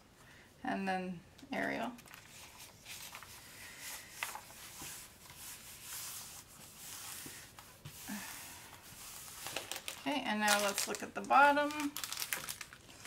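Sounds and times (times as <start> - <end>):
paper sheet rustling: 2.0 - 13.0.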